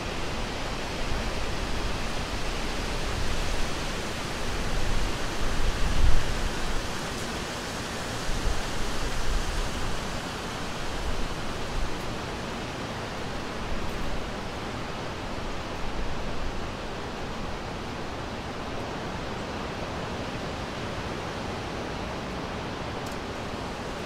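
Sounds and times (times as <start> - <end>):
wind through forest: 0.0 - 24.0.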